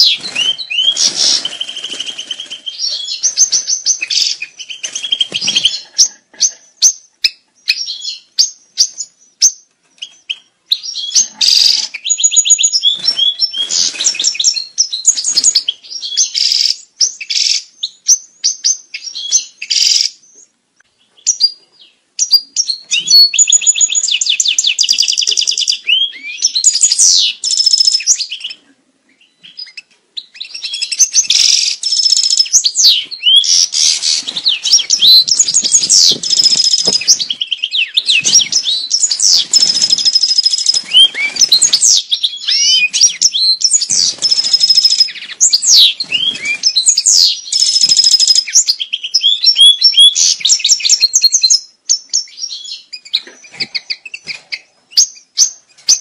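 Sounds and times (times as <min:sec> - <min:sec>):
goldfinch singing: 0:00.0 - 0:20.4, 0:21.0 - 0:28.6, 0:29.2 - 0:56.0.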